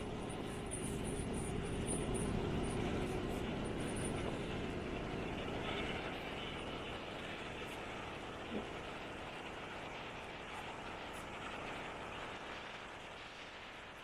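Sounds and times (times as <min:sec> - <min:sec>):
moving vehicle running noise: 0:00.0 - 0:13.8.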